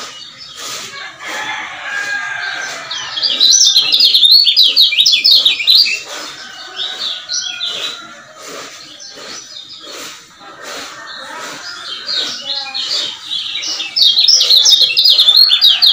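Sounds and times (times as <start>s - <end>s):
bird chirping rapidly: 0.0s - 1.0s, 1.9s - 15.9s.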